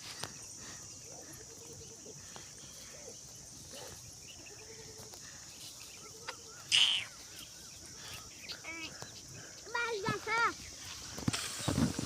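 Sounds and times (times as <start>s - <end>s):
high-pitched insect drone: 0.2s - 11.2s.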